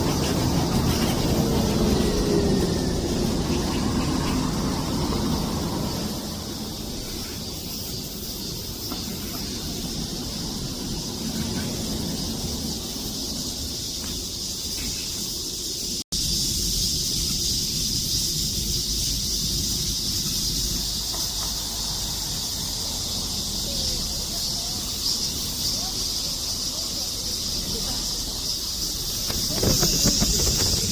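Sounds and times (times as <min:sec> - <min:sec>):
cicadas buzzing: 0:00.0 - 0:30.9.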